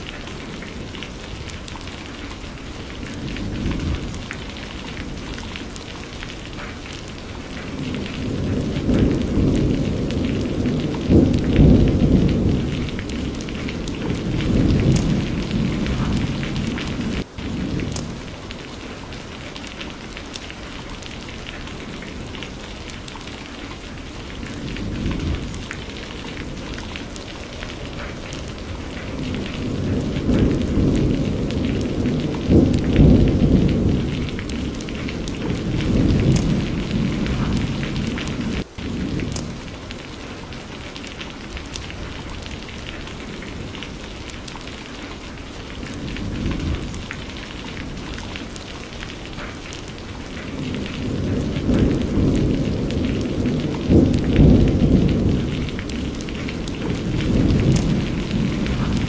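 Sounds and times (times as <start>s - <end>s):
rolling thunder: 0.0s - 20.4s, 23.8s - 44.7s, 45.3s - 59.0s
steady rain hiss: 0.0s - 59.0s.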